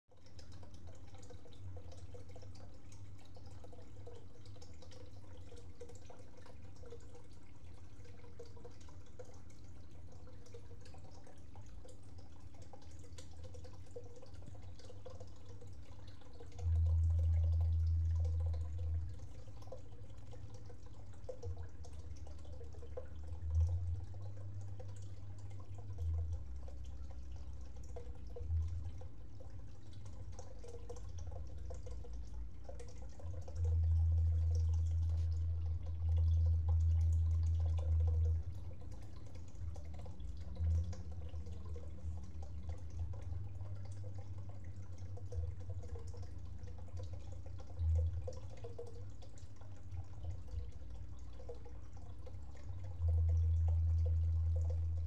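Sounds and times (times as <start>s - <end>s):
steady low hum: 0.1s - 55.0s.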